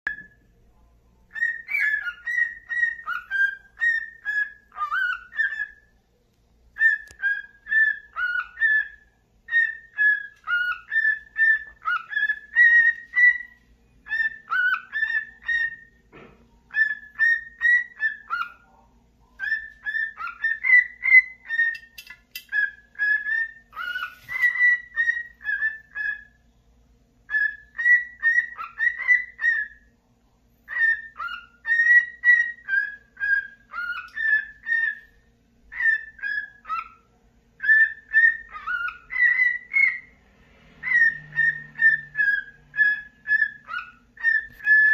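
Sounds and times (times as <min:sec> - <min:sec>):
cockatiel whistling song: 0:00.0 - 0:00.4, 0:01.3 - 0:05.9, 0:06.7 - 0:26.6, 0:27.2 - 0:29.9, 0:30.6 - 0:44.9.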